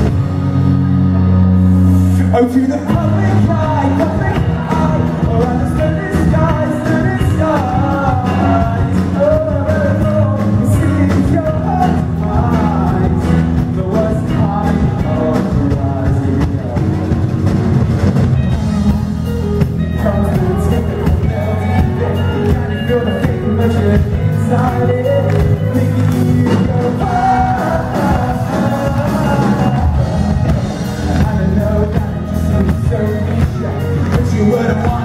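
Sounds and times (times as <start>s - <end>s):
man singing into microphone: 2.1s - 17.2s, 18.4s - 35.0s.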